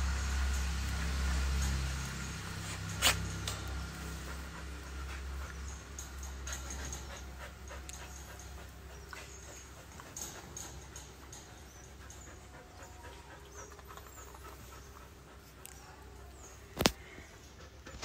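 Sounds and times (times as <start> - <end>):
dog panting: 2.4 - 18.0.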